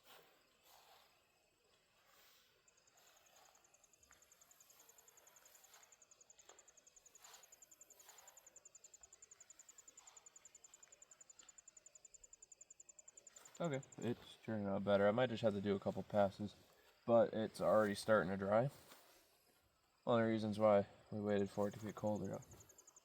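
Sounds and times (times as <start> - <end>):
cricket trill: 0.0 - 23.0.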